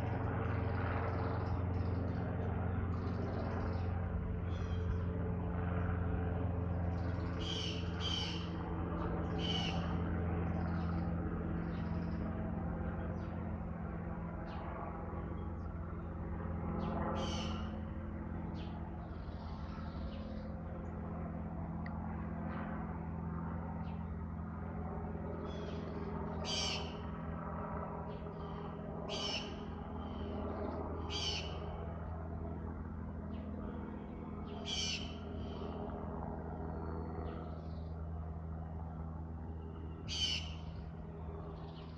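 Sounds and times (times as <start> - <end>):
aircraft drone overhead: 0.0 - 41.9.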